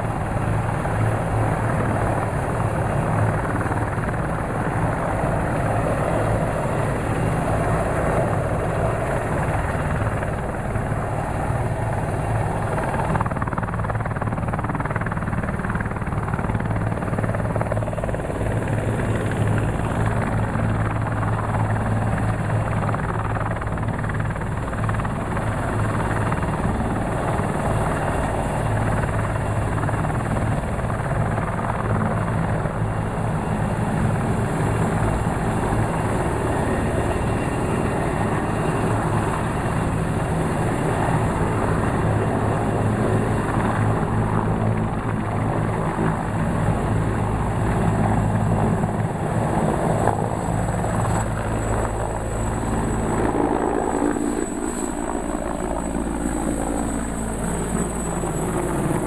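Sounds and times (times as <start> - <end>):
helicopter hovering: 0.0 - 59.0.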